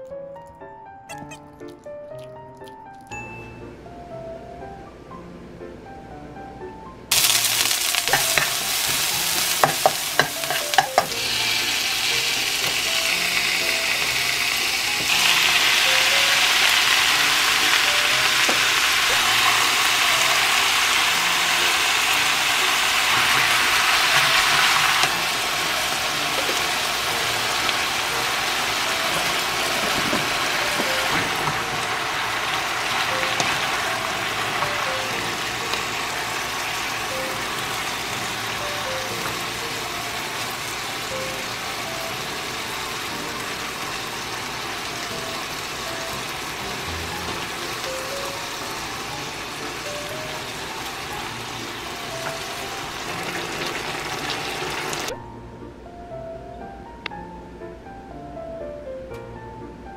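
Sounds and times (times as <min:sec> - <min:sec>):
meat sizzling in a pan: 0:07.1 - 0:55.2.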